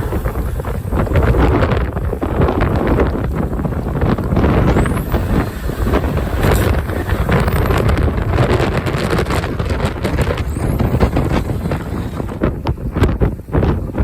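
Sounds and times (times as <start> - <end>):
off-road vehicle engine running: 0.0 - 14.0
strong wind buffeting microphone: 0.0 - 14.0.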